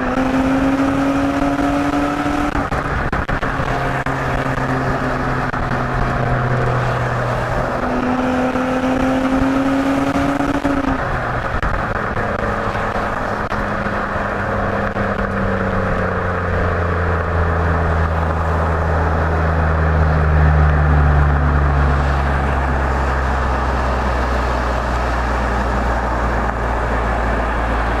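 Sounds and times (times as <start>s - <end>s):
car exhaust drone: 0.0s - 28.0s.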